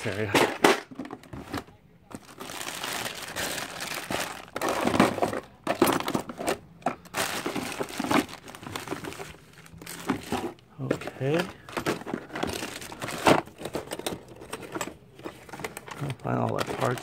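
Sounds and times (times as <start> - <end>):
plastic bags and paper crinkling: 0.0 - 17.0.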